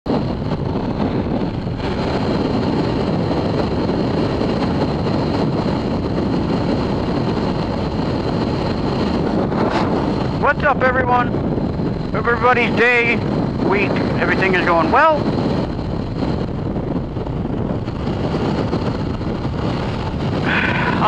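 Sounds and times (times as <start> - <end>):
wind rushing on microphone: 0.0 - 21.0
motorcycle engine: 0.1 - 21.0
road noise: 0.1 - 21.0.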